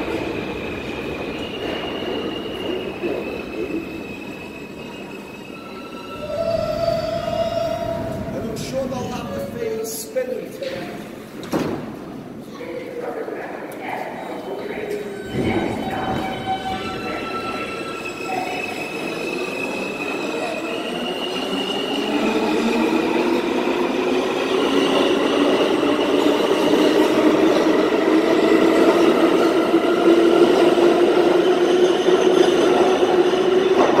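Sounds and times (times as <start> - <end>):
subway train wheels rumbling on rail: 0.0 - 34.0.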